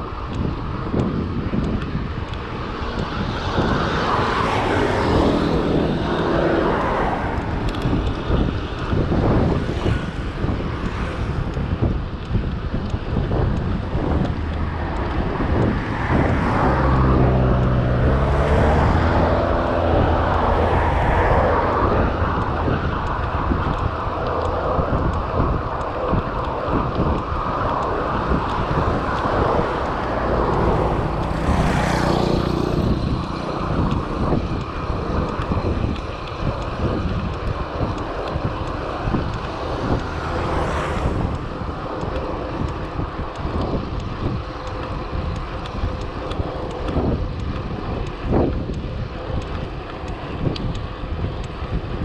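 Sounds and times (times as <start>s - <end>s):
motor vehicles passing: 0.0s - 52.0s
wind buffeting microphone: 0.0s - 52.0s.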